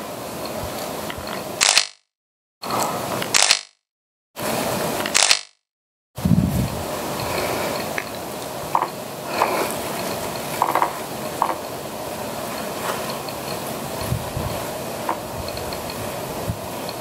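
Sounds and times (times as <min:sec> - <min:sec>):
steady outdoor hiss: 0:00.0 - 0:01.8, 0:02.6 - 0:03.5, 0:04.4 - 0:05.4, 0:06.2 - 0:17.0.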